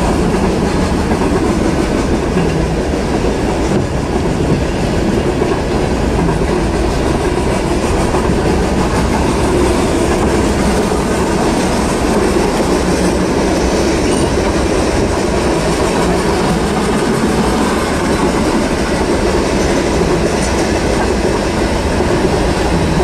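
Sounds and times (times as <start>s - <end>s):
steel wheels running on rails: 0.0s - 23.0s.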